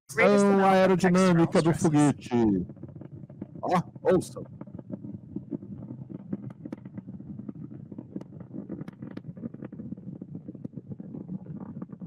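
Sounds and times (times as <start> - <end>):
rocket engine crackling: 0.1 - 12.0.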